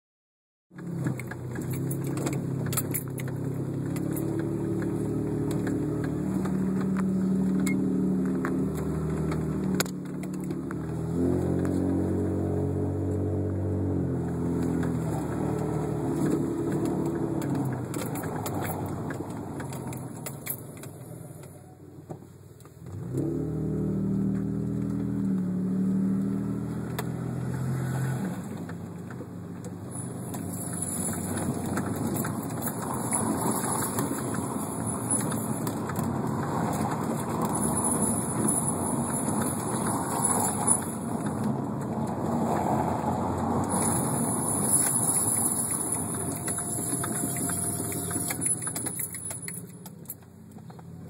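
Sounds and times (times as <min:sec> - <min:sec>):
car engine while driving: 0:00.7 - 0:51.0
road noise: 0:00.7 - 0:51.0.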